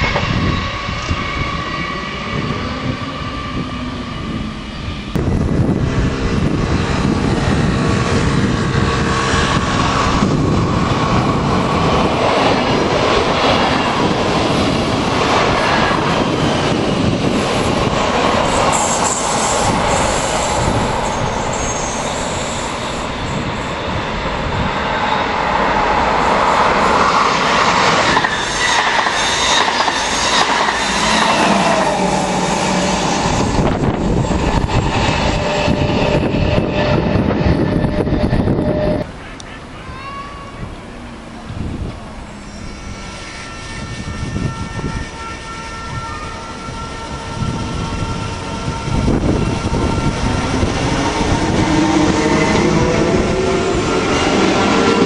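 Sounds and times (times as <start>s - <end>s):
train wheels rumbling and rattling: 0.0s - 39.2s, 41.5s - 55.0s.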